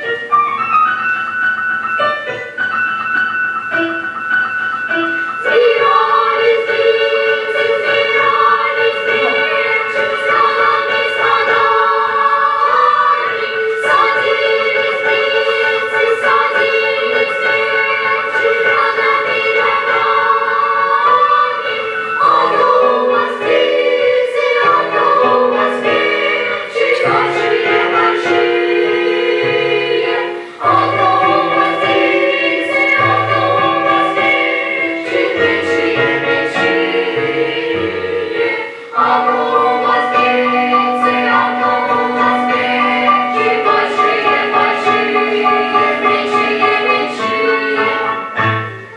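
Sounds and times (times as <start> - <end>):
choir singing with accompaniment: 4.9 - 48.9.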